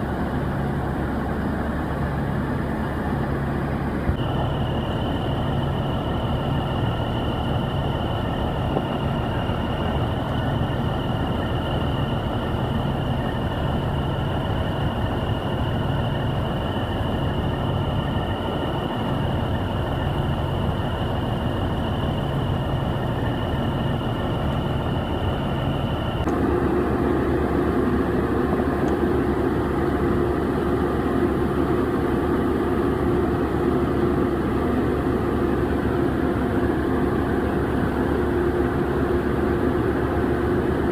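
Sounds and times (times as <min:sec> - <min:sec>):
combine harvester running: 0:00.0 - 0:40.9
high machine whine: 0:00.0 - 0:40.9.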